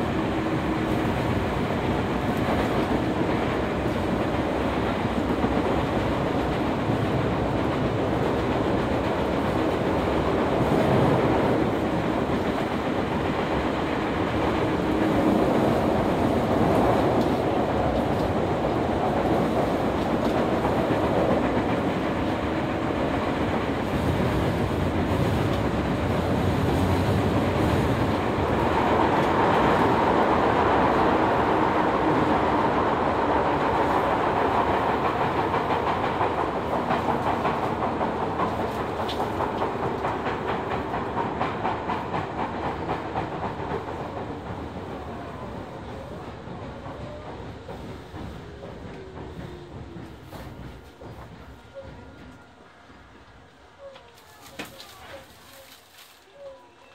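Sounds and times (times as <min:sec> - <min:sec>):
clickety-clack over rail joints: 0:00.0 - 0:56.9
subway wheels rumbling on rail: 0:00.0 - 0:56.9.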